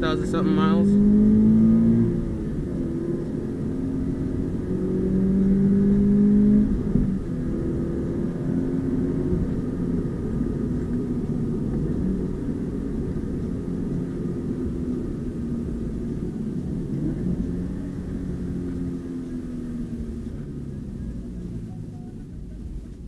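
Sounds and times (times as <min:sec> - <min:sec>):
car engine cruising: 0:00.0 - 0:23.0.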